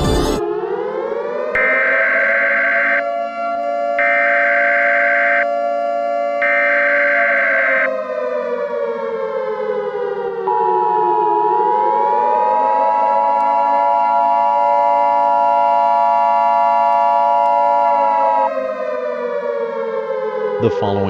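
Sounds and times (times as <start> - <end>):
civil defense siren wailing: 0.3 - 21.0.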